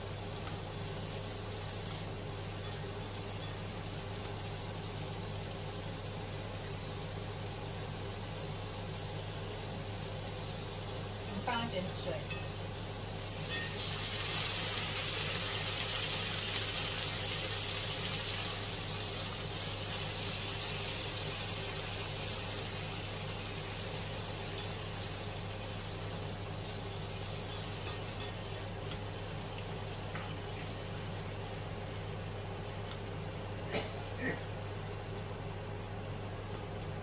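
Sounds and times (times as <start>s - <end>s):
water hissing in hot frying pan: 0.0s - 33.7s
pan simmering: 0.0s - 37.0s.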